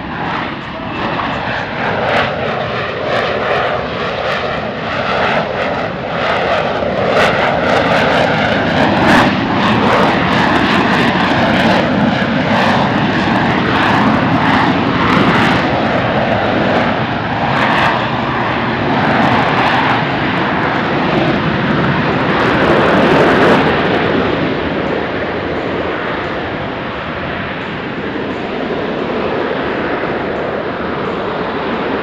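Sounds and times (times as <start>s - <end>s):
jet engine roaring: 0.0s - 32.0s.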